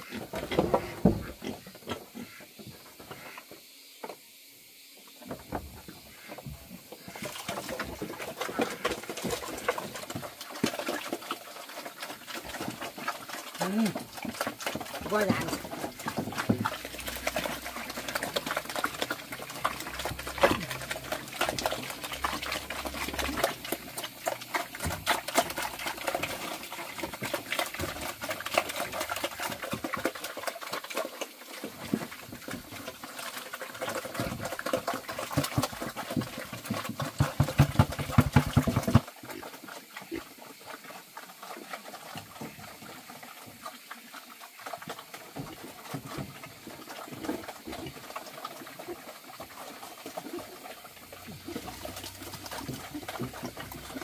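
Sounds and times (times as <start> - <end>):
pigs chomping and slurping: 0.0 - 3.4, 5.4 - 54.0.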